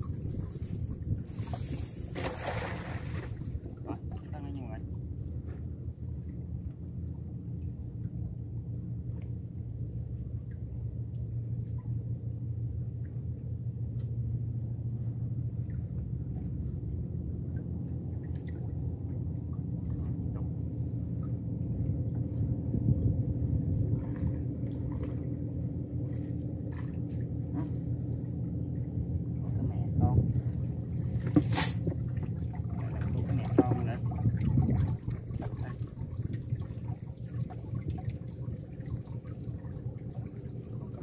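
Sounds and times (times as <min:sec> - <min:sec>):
boat engine humming: 0:00.0 - 0:41.0.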